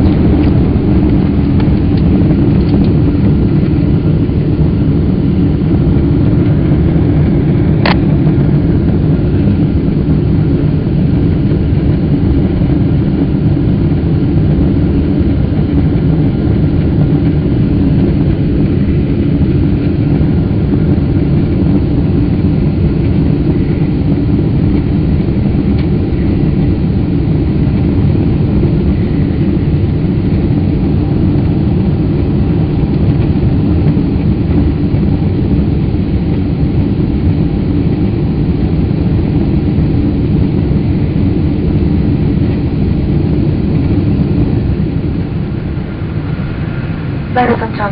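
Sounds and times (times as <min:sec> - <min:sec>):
airflow over fuselage: 0:00.0 - 0:47.9
jet engine cabin rumble: 0:00.0 - 0:47.9.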